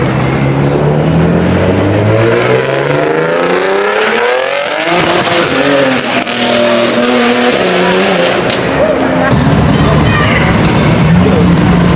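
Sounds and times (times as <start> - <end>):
car engine accelerating hard: 0.0 - 11.9.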